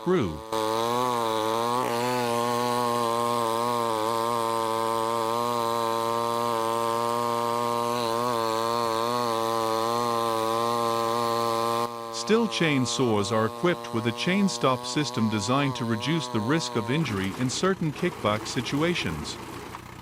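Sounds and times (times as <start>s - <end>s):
chainsaw sawing a log: 0.0s - 20.0s.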